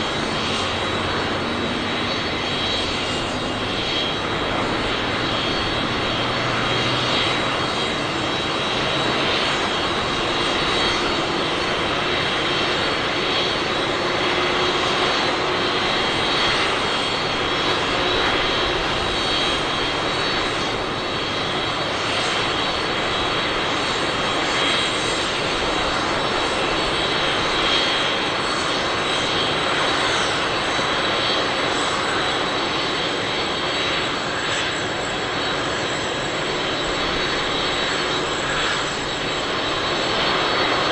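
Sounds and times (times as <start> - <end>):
high jet whine: 0.0 - 40.9
jet engine roar: 0.0 - 40.9.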